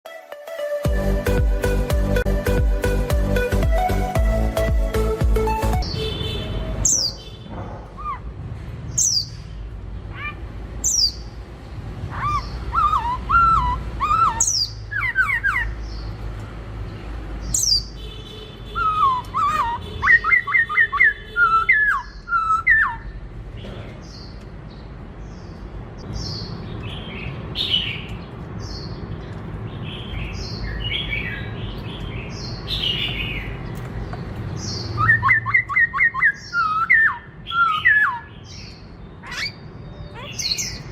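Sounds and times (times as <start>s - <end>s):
bird singing: 0.9s - 8.3s, 8.9s - 11.4s, 12.1s - 16.2s, 17.4s - 40.9s.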